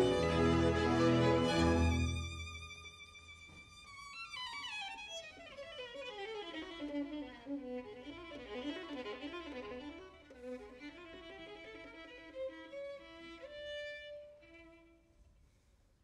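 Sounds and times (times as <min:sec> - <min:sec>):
solo violin fast run: 0:00.0 - 0:13.8.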